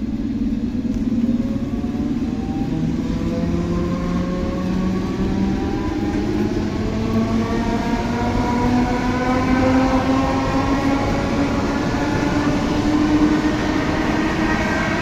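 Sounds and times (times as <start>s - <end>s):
train running rumble: 0.0s - 15.0s
train traction motors whining: 0.2s - 15.0s.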